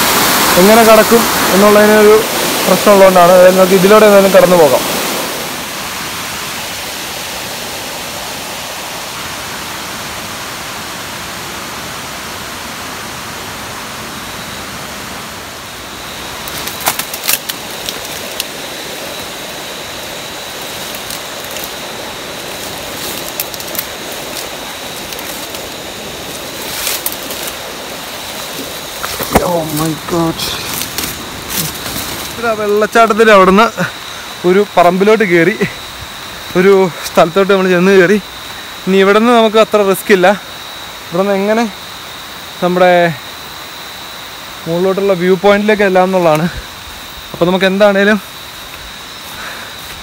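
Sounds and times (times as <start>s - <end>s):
leaves and twigs rustling: 0.0s - 9.9s, 13.7s - 50.0s
falling water rushing: 0.0s - 50.0s.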